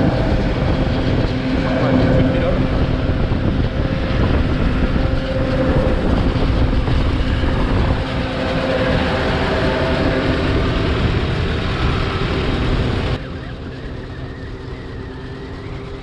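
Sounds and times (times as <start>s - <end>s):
heavy vehicle engine rumbling: 0.0s - 16.0s.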